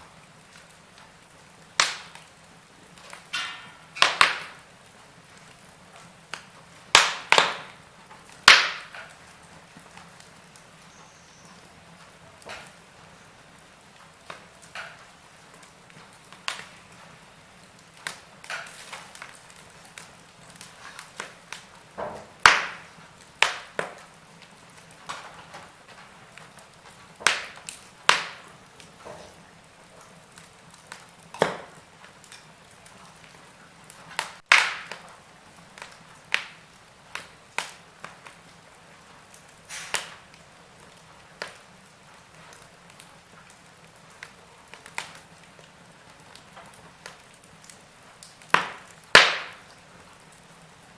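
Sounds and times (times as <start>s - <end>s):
low steady fire hiss: 0.0s - 50.9s
wood fire crackling and popping: 0.0s - 50.9s.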